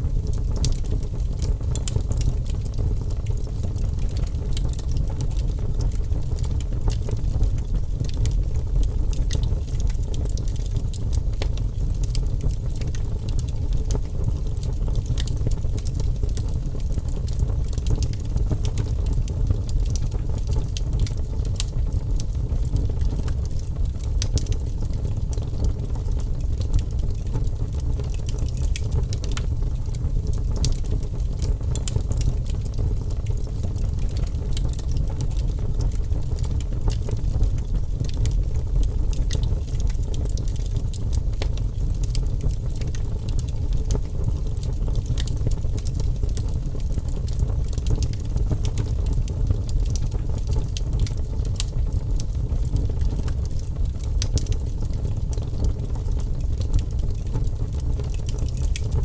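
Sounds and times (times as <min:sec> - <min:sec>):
fire crackling and popping: 0:00.0 - 0:59.0
fire flames roaring: 0:00.2 - 0:59.0.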